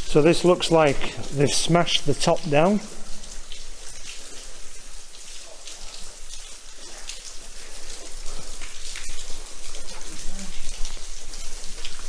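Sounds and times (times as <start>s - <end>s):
hiss of falling water: 0.0s - 12.0s
water dripping and splashing: 0.0s - 12.0s.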